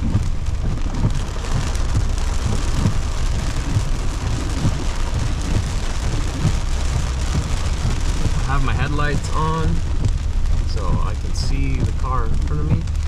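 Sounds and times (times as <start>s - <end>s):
car driving rumble: 0.0s - 13.0s
heavy rain on car roof: 0.0s - 13.0s.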